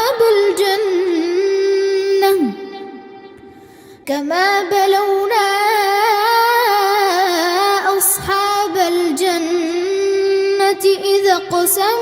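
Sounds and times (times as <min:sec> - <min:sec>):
child chanting recitation: 0:00.0 - 0:02.9, 0:04.1 - 0:12.0.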